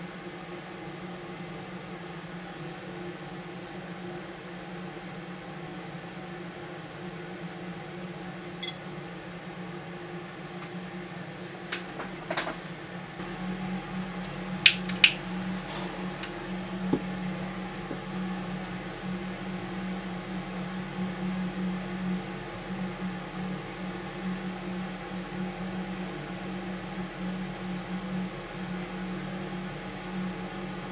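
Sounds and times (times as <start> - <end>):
extractor fan humming: 0.0 - 30.9.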